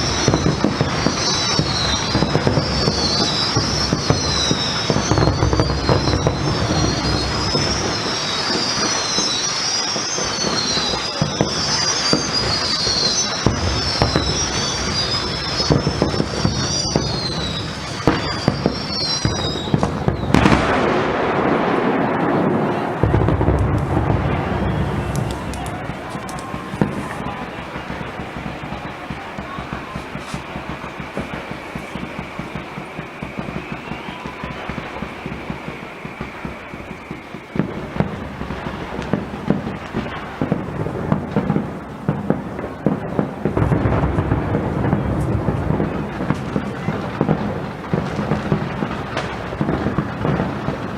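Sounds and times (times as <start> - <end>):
deep firework boom: 0.0 - 50.9
firework burst: 0.0 - 50.9
firework cracks: 0.0 - 50.9
firework whistles: 0.0 - 50.9.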